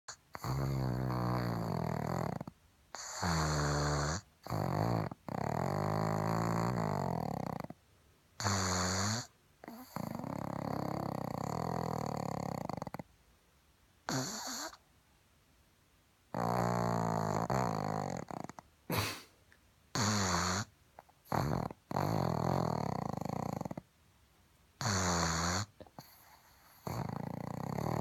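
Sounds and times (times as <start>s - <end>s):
dog snoring: 0.1s - 7.8s, 8.4s - 13.1s, 14.0s - 14.8s, 16.3s - 19.2s, 19.9s - 23.9s, 24.8s - 28.0s.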